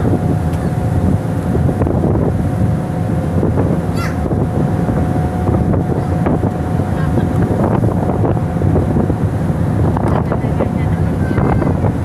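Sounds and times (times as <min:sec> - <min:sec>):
ship engine running: 0:00.0 - 0:12.0
waves washing along hull: 0:00.0 - 0:12.0
wind buffeting microphone: 0:00.0 - 0:12.0.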